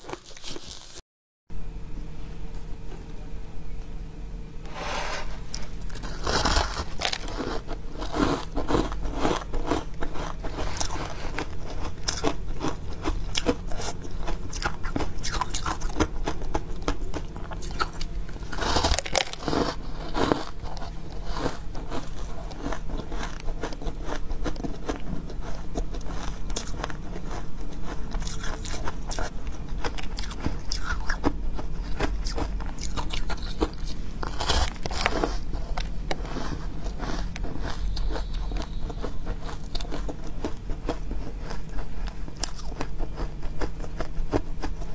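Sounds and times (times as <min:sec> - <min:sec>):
chewing crunchy ice: 0:00.0 - 0:01.0, 0:05.5 - 0:44.9.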